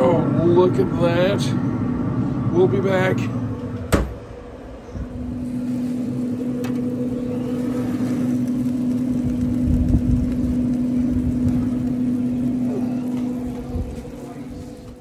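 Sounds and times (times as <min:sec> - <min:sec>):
grill fan humming: 0:00.0 - 0:15.0.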